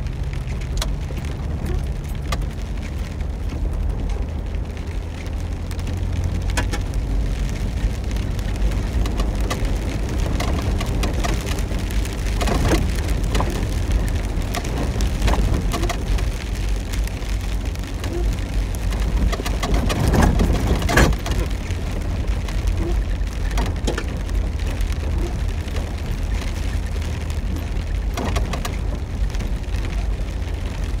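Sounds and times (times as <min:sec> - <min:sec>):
vehicle rumble inside cab: 0:00.0 - 0:31.0
clicks and knocks over bumps: 0:00.1 - 0:31.0.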